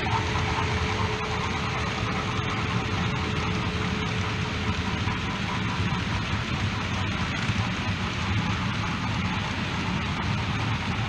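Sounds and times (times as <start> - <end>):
model train rumbling on track: 0.0 - 11.0.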